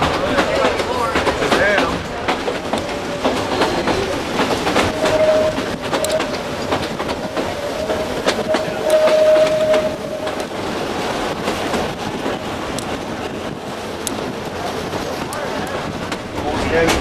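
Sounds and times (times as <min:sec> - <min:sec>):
train carriages rolling: 0:00.0 - 0:17.0
wheels clicking over rail joints: 0:00.0 - 0:17.0.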